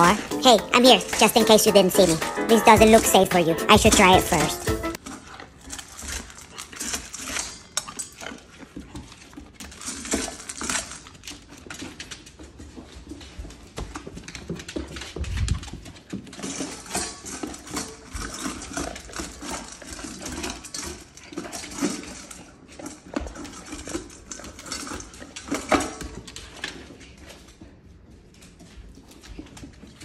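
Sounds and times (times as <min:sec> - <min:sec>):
dog eating kibble from metal bowl: 0:00.0 - 0:30.0.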